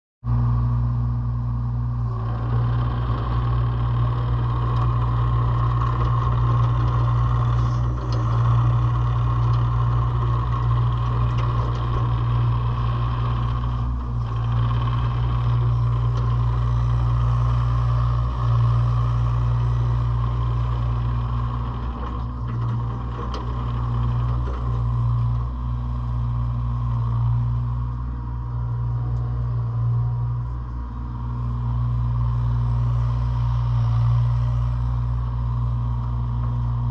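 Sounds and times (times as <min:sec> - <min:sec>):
excavator diesel engine running: 0:00.3 - 0:36.9.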